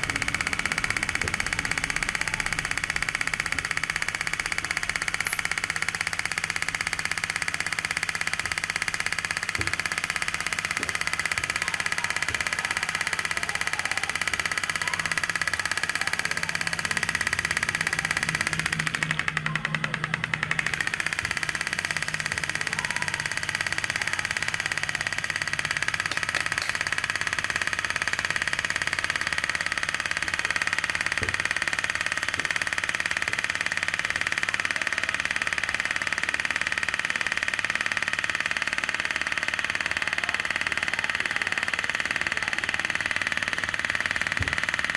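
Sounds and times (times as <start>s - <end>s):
small two-stroke engine buzzing: 0.0s - 44.9s.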